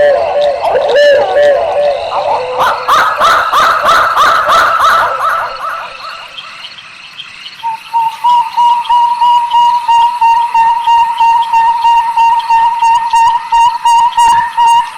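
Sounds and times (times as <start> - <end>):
high whistled toots: 0.0 - 14.9
owl calling: 0.0 - 14.9.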